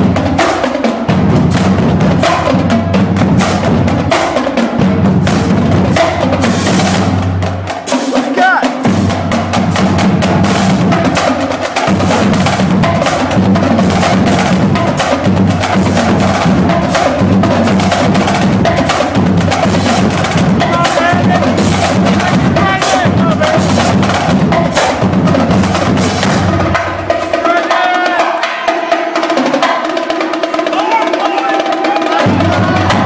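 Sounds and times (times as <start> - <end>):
bass drums pounding: 0.0 - 28.2, 30.7 - 33.0
snare drums rolling: 0.0 - 33.0.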